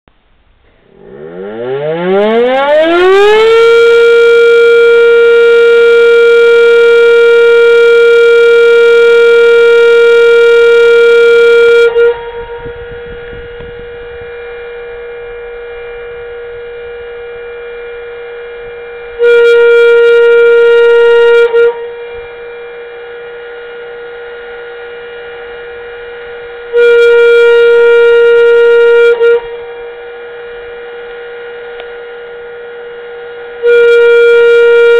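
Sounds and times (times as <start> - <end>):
rotating siren wailing: 0.8 - 34.9.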